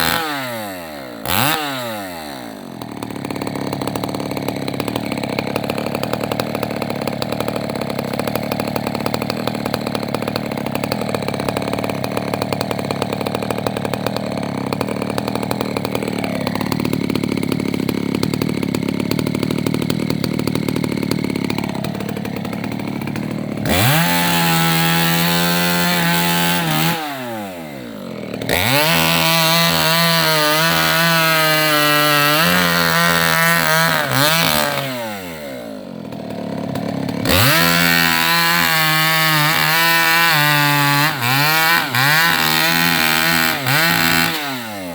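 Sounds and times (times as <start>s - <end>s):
chainsaw cutting branches: 0.0s - 44.9s
chainsaw idling and revving: 0.0s - 44.9s.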